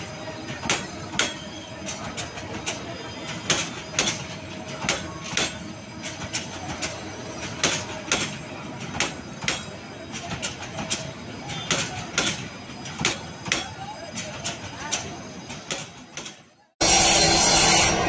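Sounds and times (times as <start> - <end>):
train wheels clacking over rail joints: 0.0 - 16.6
moving train rumble: 0.0 - 18.0.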